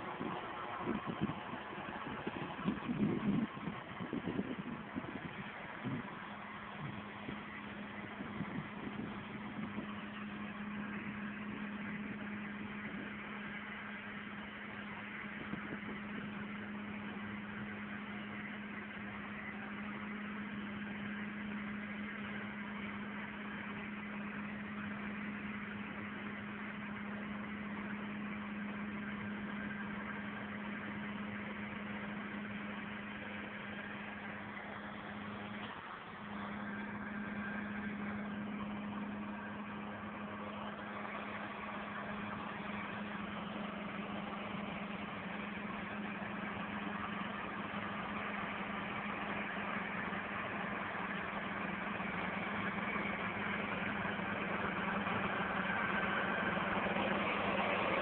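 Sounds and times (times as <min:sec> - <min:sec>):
tractor engines droning: 0:00.0 - 0:58.0.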